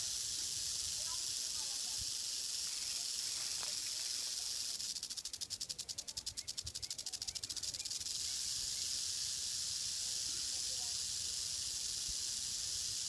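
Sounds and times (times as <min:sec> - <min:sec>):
rattlesnake rattling: 0:00.0 - 0:13.0.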